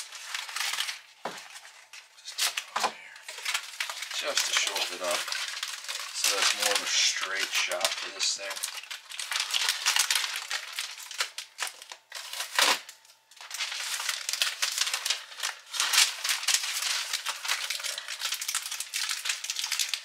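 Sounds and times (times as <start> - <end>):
vent hose crinkling and rattling: 0.0 - 20.0.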